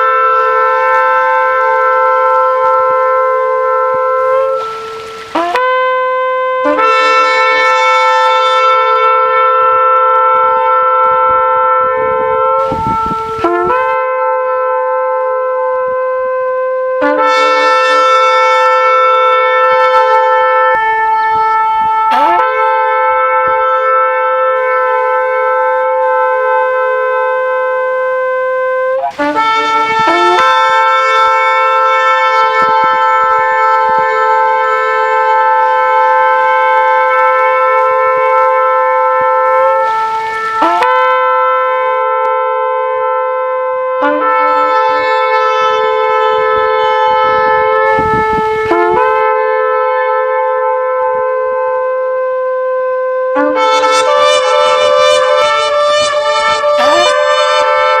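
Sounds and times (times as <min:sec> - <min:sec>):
ram's horn blasts: 0:00.0 - 0:58.0.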